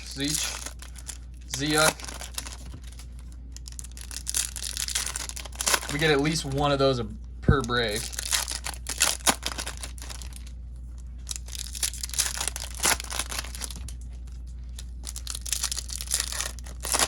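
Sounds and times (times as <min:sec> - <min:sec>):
foil wrappers tearing and crinkling: 0:00.0 - 0:06.7, 0:07.7 - 0:10.5, 0:11.2 - 0:14.0, 0:14.8 - 0:17.0.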